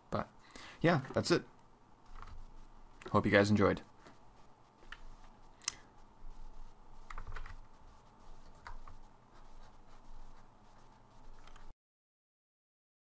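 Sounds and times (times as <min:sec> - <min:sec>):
low room noise: 0:00.0 - 0:11.8.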